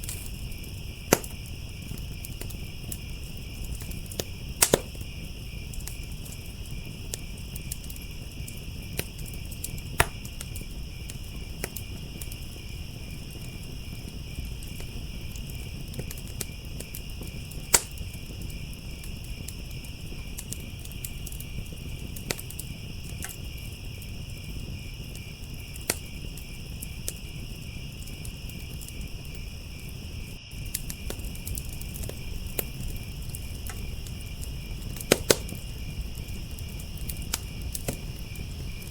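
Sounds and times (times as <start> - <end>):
crickets chirping: 0.0 - 38.9
wood fire crackling: 0.0 - 38.9.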